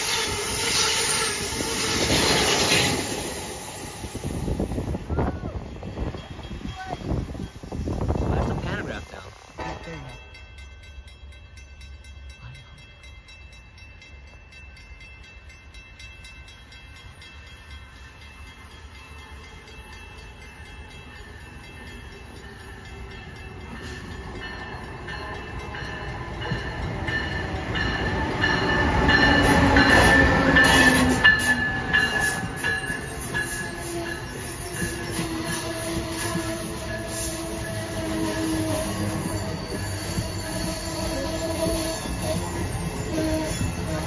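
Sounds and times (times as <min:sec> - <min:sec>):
train passing: 0:00.0 - 0:44.0.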